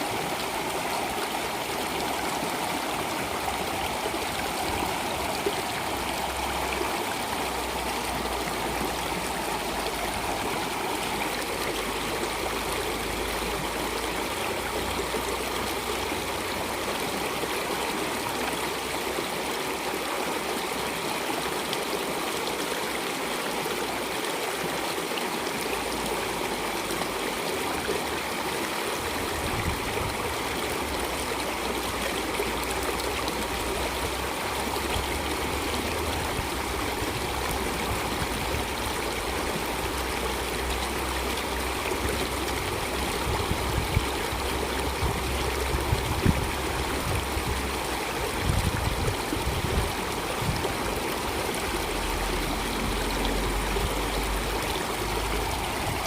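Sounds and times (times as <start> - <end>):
stream water rushing and gurgling: 0.0 - 56.0.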